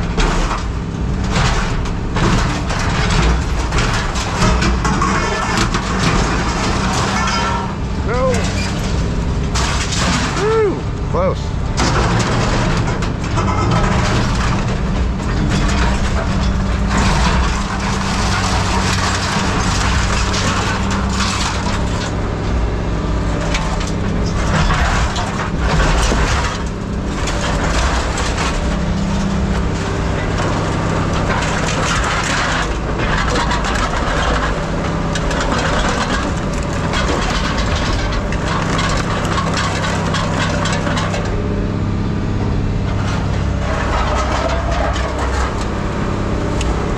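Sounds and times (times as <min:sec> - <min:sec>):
heavy machine engine running: 0:00.0 - 0:46.9
scrap metal crunching and scraping: 0:00.0 - 0:46.9.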